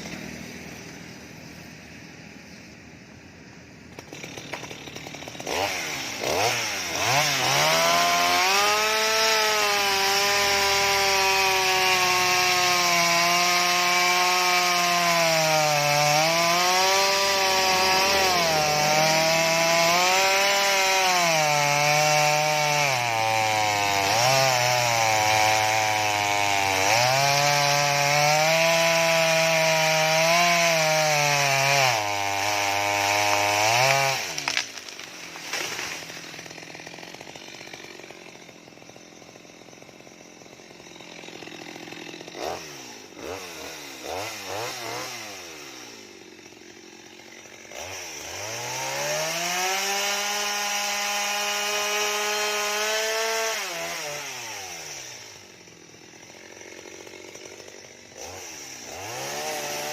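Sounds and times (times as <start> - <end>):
chainsaw cutting wood: 0.0 - 2.7, 3.7 - 59.9.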